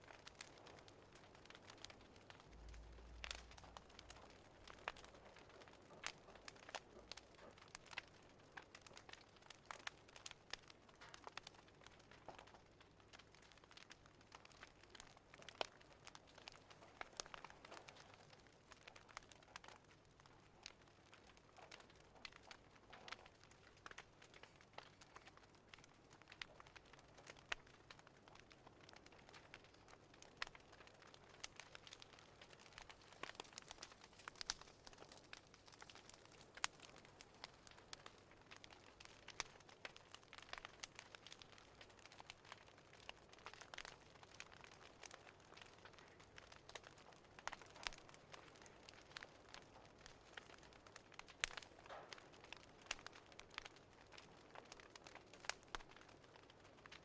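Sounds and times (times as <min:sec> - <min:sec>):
faint fireplace fire crackling: 0:00.0 - 0:57.0.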